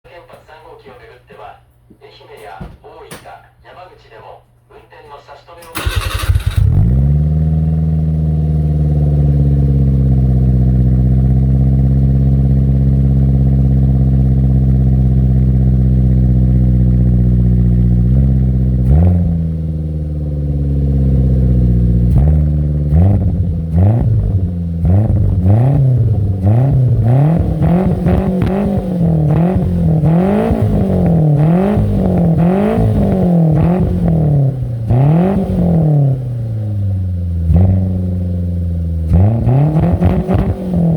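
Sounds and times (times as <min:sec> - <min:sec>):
car engine idling and revving: 0:05.8 - 0:40.9.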